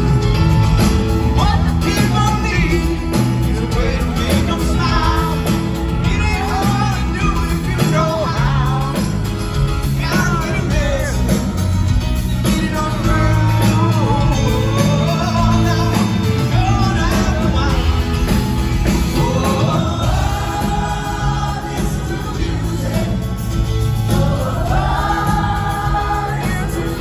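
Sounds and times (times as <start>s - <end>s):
lead vocal singing: 0.0s - 27.0s
live pop-rock band: 0.0s - 27.0s.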